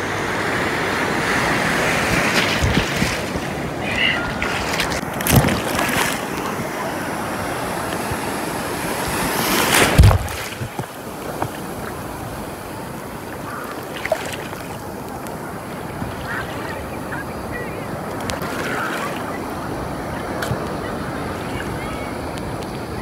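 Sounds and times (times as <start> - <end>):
ocean surf breaking: 0.0 - 23.0
wave crashing: 0.0 - 23.0.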